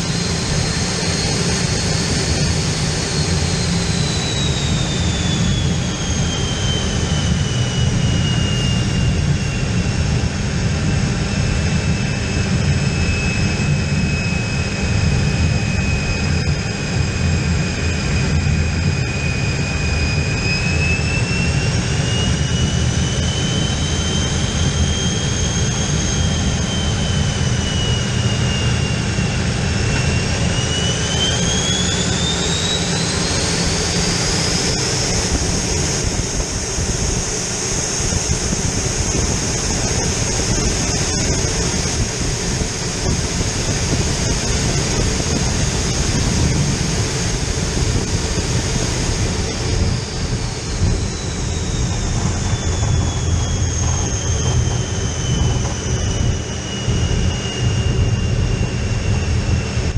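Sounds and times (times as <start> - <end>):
jet engine rumble and whine: 0.0 - 59.9.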